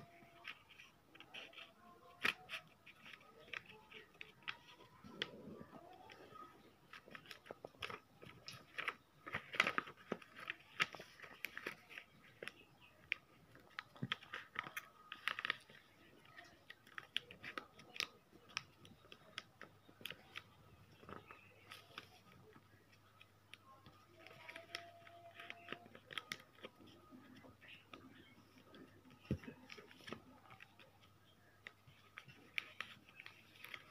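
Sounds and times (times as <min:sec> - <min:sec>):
paper folding and crinkling: 0:00.0 - 0:33.9.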